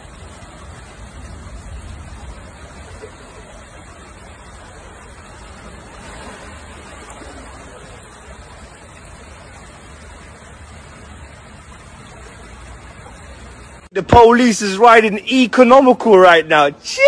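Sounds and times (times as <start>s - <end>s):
rushing water wash: 0.0s - 17.0s.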